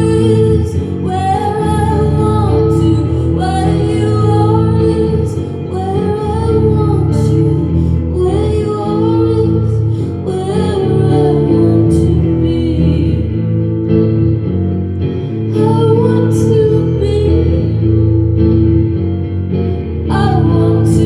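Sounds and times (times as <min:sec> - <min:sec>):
woman singing: 0:00.0 - 0:14.2, 0:15.1 - 0:18.4, 0:19.8 - 0:21.0
acoustic guitar: 0:00.0 - 0:21.0.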